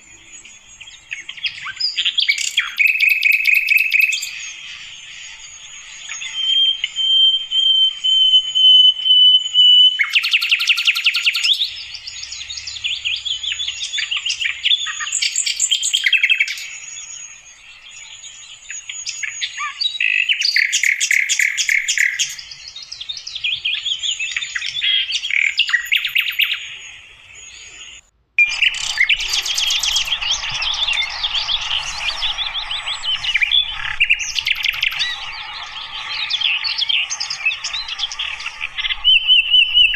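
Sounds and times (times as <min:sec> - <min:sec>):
flycatcher singing: 0:00.0 - 0:39.9.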